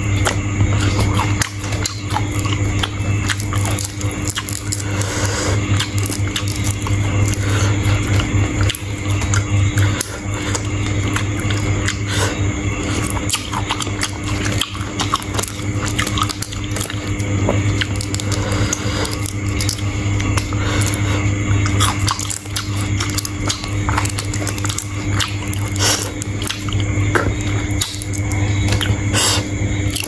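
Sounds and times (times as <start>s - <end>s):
low electrical hum: 0.0s - 30.0s
wet crunchy chewing: 0.0s - 30.0s.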